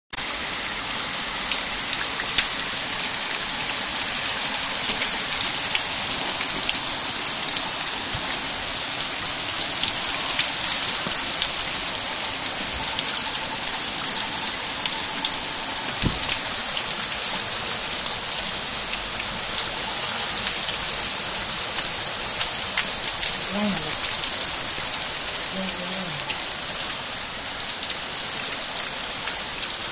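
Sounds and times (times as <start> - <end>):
torrential rain on hard ground: 0.1 - 29.9.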